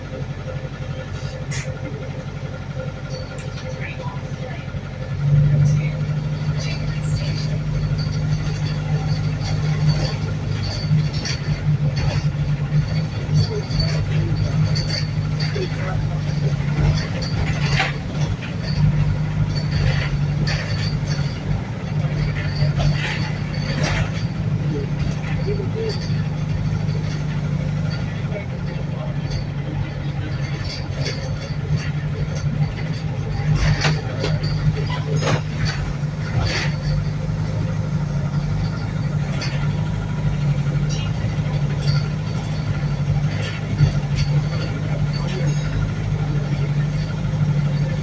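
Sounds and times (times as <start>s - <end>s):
bus engine drone: 0.0s - 48.0s.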